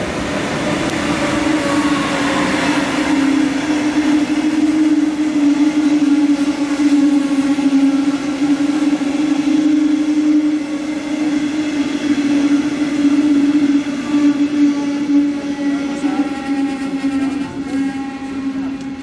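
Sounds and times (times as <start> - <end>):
loud droning tone: 0.0 - 19.0
train rumbling past: 0.0 - 19.0.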